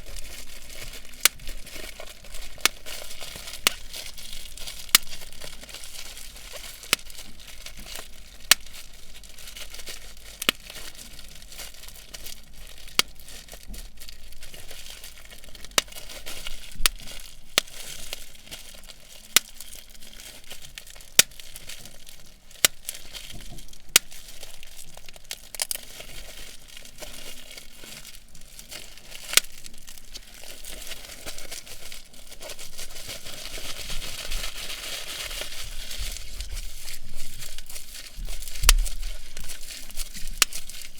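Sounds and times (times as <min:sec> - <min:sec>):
bubble wrap crinkling: 0:00.0 - 0:40.9
bubble wrap popping: 0:00.0 - 0:40.9.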